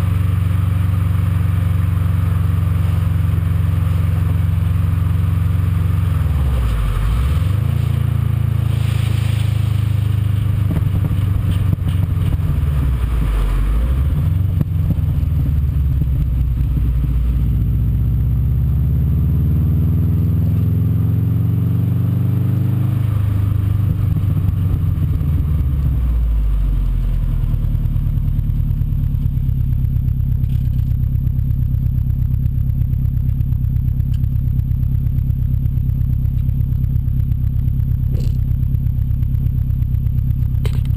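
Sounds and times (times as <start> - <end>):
car exhaust engine note: 0.0 - 40.9.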